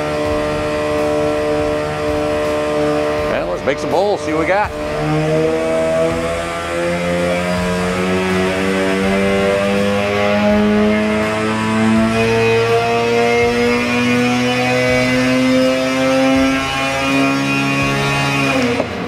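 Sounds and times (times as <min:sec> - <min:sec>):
snowmobile engine revving under load: 0:00.0 - 0:19.0.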